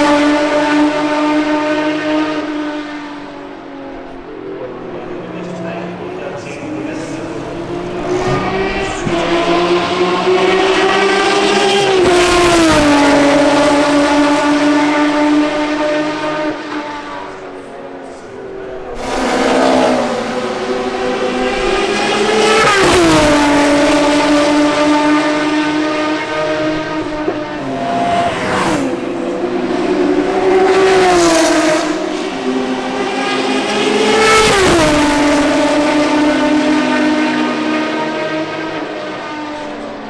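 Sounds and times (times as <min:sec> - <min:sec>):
race car engine passing: 0:00.0 - 0:40.0.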